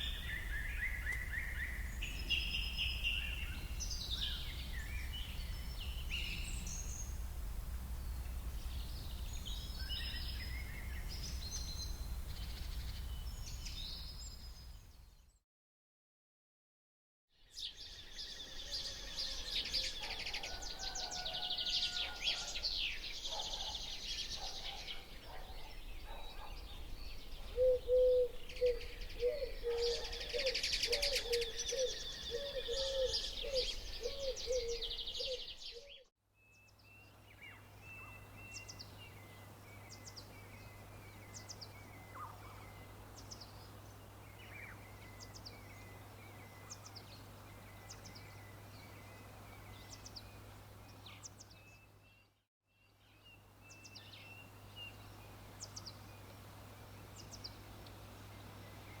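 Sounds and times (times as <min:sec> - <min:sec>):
birds chirping chorus: 0:00.0 - 0:15.2, 0:17.5 - 0:59.0.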